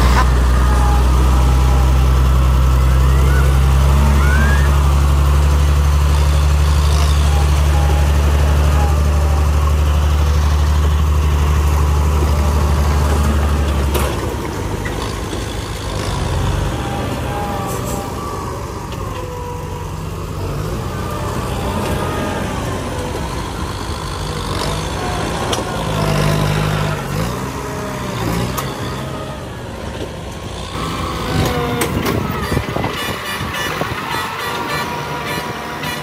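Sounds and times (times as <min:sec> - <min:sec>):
diesel truck engine running: 0:00.0 - 0:36.0
tractor diesel engine running: 0:00.0 - 0:36.0.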